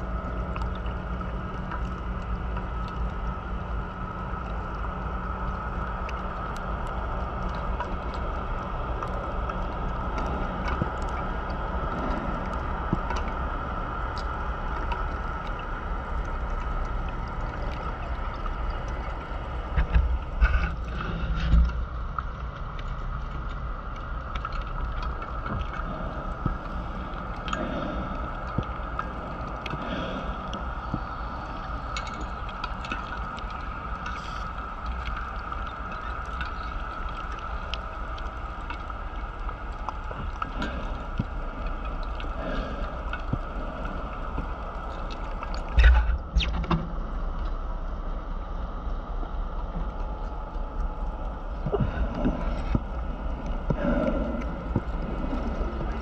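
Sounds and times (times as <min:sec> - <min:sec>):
underwater hum and rumble: 0:00.0 - 0:56.0.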